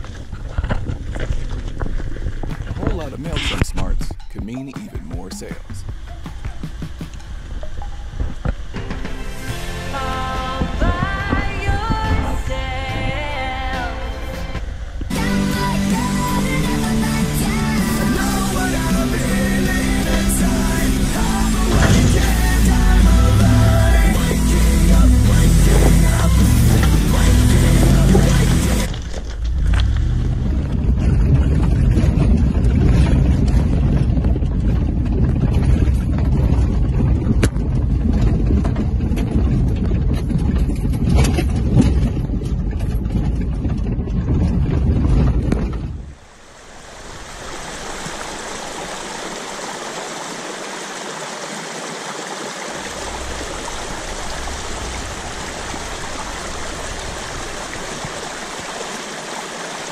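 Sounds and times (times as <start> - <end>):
wind buffeting microphone: 0.0 - 13.8, 18.2 - 49.7, 52.8 - 59.0
rocky creek rushing: 0.0 - 37.1, 46.0 - 59.9
vehicle driving on gravel road: 0.0 - 51.0, 52.6 - 59.9.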